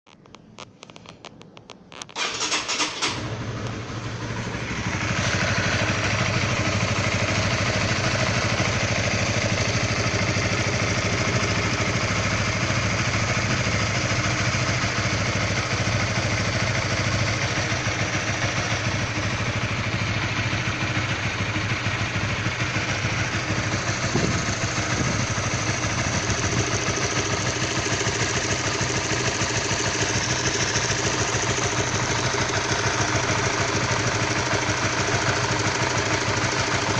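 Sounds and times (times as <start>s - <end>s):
motorcycle engine starting: 0.1s - 36.9s
engine idling with knocking: 3.5s - 36.9s.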